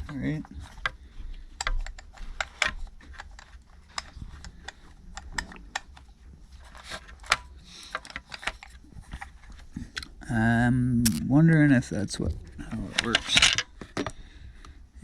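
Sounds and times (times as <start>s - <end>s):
small hard parts clicking: 0.0s - 10.2s, 12.6s - 14.8s
faint low hum: 0.0s - 15.0s.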